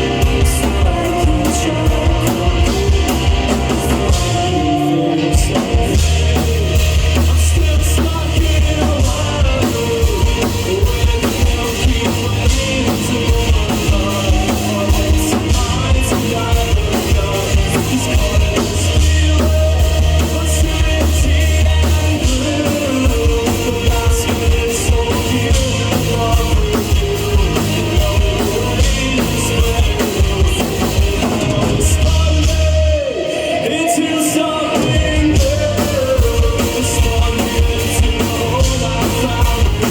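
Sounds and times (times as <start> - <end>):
drum kit: 0.0 - 39.9
heavy bass notes: 0.0 - 39.9
person singing: 0.0 - 39.9
rock band playing live: 0.0 - 39.9.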